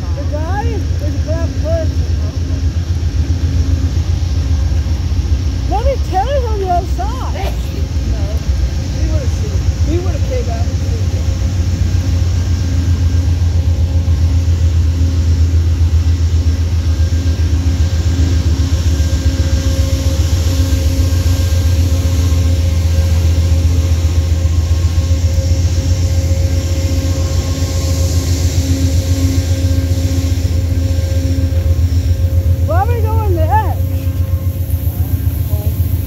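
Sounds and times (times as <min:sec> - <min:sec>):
diesel locomotive droning: 0:00.0 - 0:36.0.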